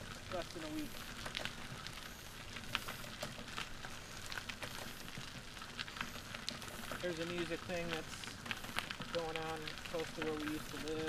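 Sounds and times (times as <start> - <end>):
grit crackling under wheels: 0.0 - 11.0
tyres rolling on dirt trail: 0.0 - 11.0.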